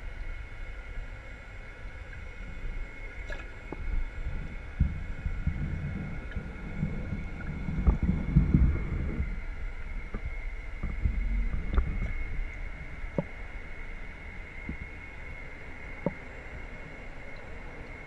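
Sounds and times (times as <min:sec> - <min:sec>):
steady high whine: 0:00.0 - 0:18.0
underwater air bubbling: 0:01.0 - 0:18.0.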